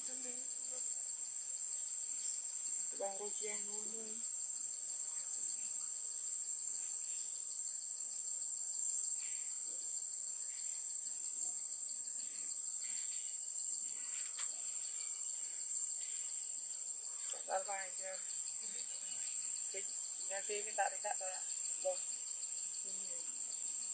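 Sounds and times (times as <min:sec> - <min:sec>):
insects droning: 0:00.0 - 0:23.9.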